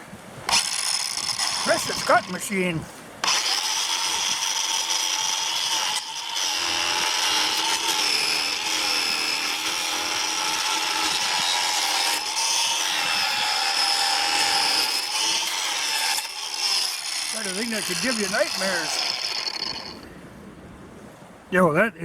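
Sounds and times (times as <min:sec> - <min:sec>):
angle grinder cutting wood: 0:00.5 - 0:02.6, 0:03.2 - 0:20.1.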